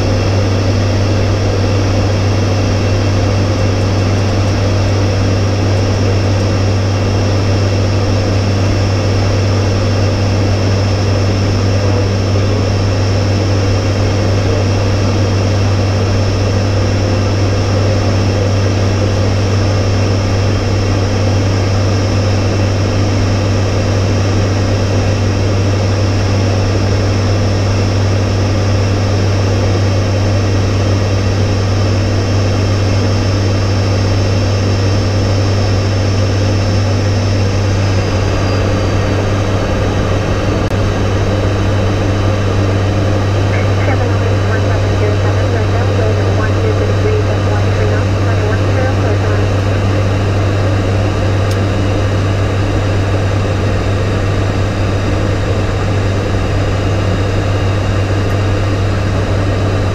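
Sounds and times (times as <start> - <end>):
turboprop airliner drone: 0.0 - 59.9.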